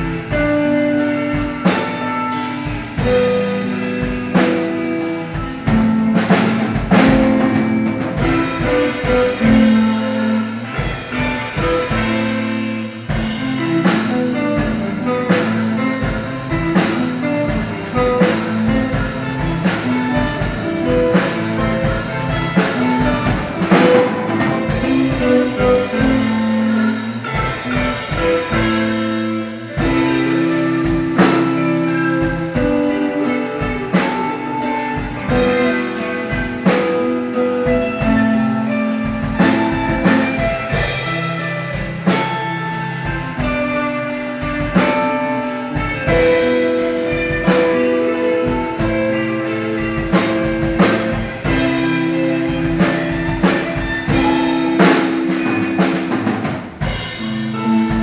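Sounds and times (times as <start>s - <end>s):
drum kit: 0.0s - 58.0s
electric bass: 0.0s - 58.0s
electric guitars: 0.0s - 58.0s.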